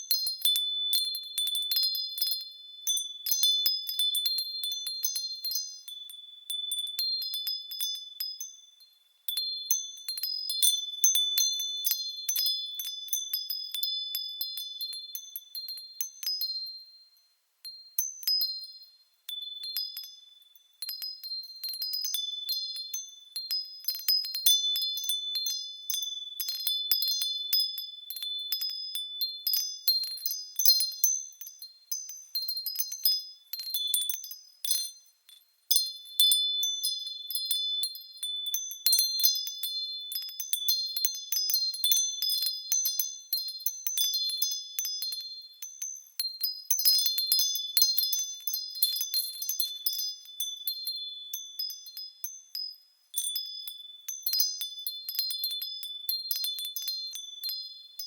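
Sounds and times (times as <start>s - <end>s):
wind chime clinking: 0.0s - 58.0s.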